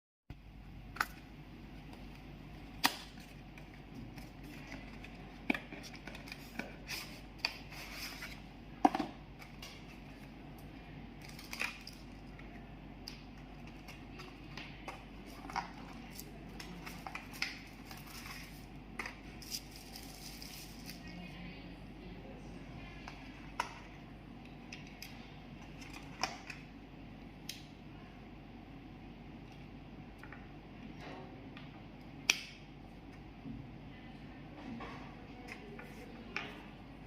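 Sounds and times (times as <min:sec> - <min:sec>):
steady low hum: 0:00.3 - 0:37.0.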